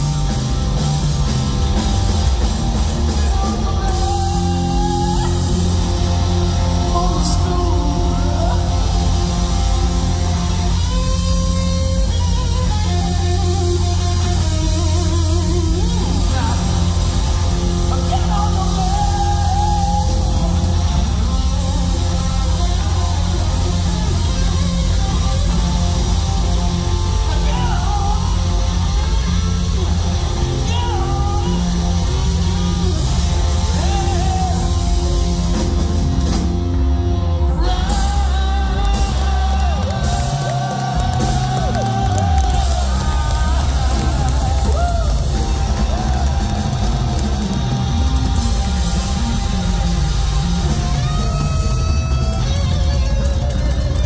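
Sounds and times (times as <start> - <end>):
bent electric guitar notes: 0.0 - 54.0
drum kit: 0.0 - 54.0
live rock band playing: 0.0 - 54.0.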